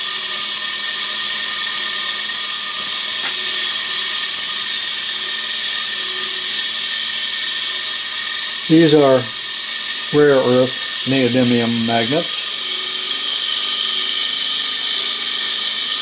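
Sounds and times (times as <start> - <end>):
small electric motor whirring: 0.0 - 16.0.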